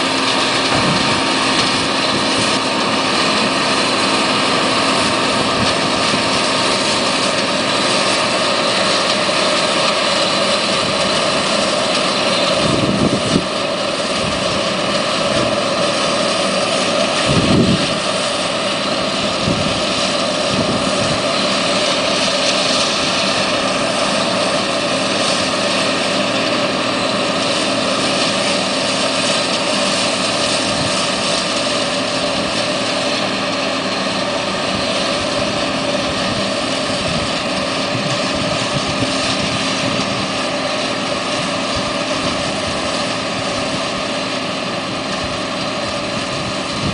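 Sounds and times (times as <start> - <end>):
combine harvester running: 0.0 - 46.9.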